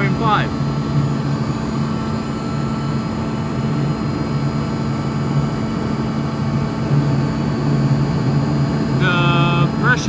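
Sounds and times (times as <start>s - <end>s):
screw air compressor humming: 0.0s - 10.0s.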